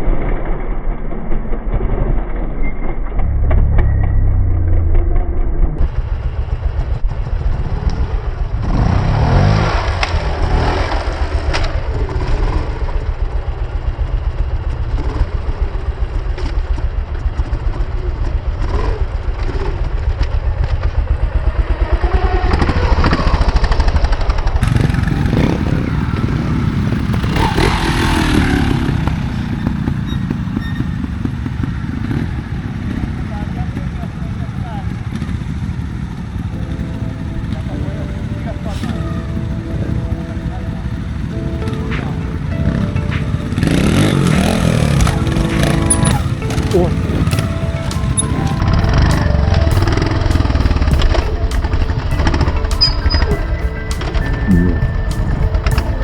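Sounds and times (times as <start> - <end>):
motorcycle engine revving: 3.0 - 56.0.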